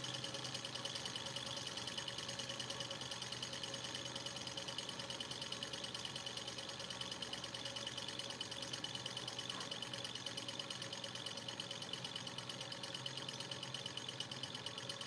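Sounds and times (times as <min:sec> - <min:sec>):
hot-air engine ticking: 0:00.0 - 0:15.0.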